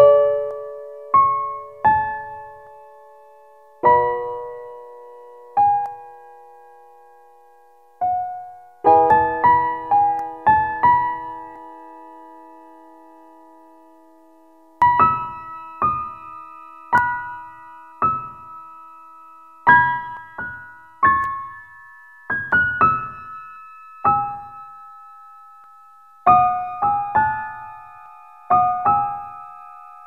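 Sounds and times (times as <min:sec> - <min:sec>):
slow sparse piano notes: 0:00.0 - 0:30.0.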